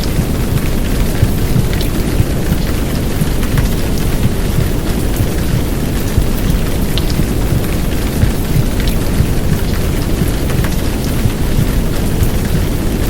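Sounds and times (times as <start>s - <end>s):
deep rumbling womb sound: 0.0s - 13.0s
heavy rain: 0.0s - 13.0s
raindrop ticks: 0.0s - 13.0s
white noise: 0.0s - 13.0s.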